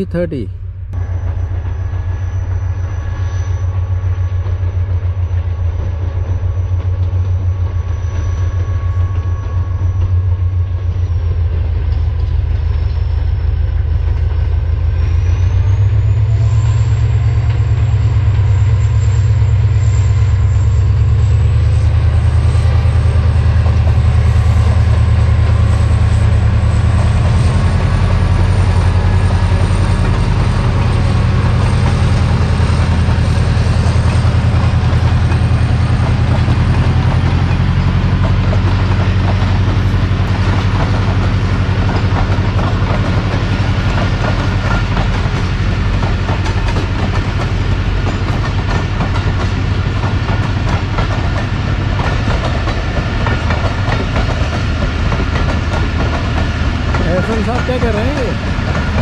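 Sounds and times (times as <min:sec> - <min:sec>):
diesel locomotive engine drone: 0:00.0 - 0:59.0
train rumble: 0:00.0 - 0:59.0.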